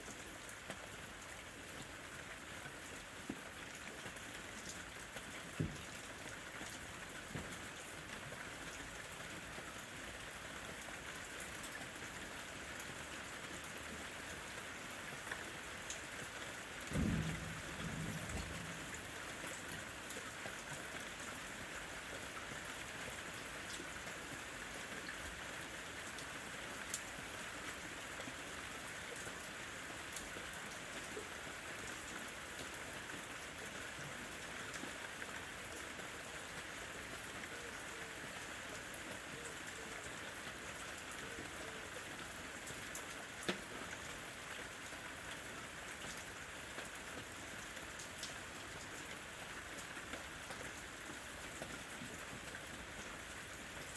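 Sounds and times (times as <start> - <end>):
light rain pattering: 0.0 - 53.9.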